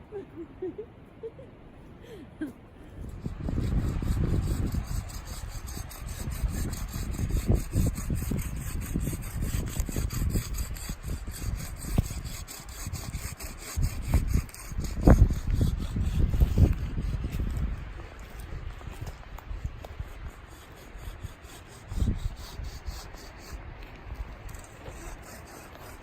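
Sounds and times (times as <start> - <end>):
saw cutting through tree trunk: 3.1 - 18.7, 19.6 - 23.6, 24.4 - 26.0.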